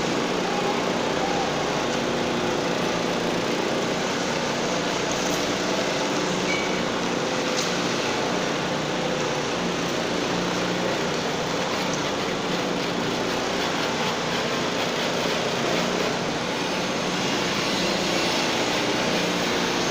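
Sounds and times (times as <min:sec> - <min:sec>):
power trowel engine running: 0:00.0 - 0:19.9.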